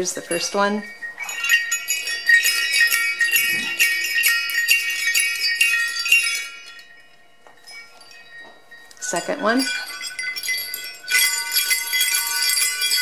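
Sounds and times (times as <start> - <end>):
sleigh bells jingling: 0.0 - 13.0.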